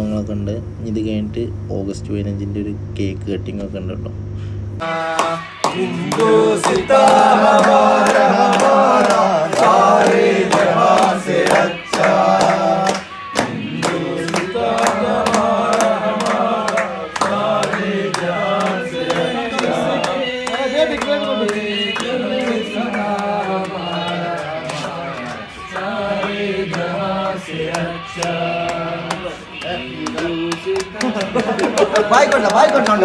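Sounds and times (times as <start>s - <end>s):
men singing together: 4.8s - 33.0s
hand clapping in time: 5.0s - 33.0s.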